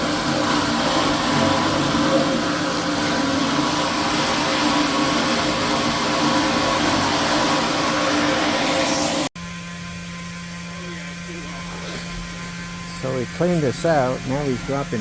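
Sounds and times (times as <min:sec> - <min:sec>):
vacuum pump running: 0:00.0 - 0:15.0.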